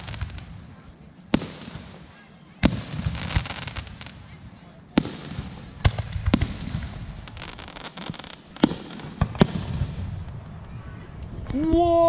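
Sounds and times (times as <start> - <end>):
firework crackling: 0.0 - 12.0.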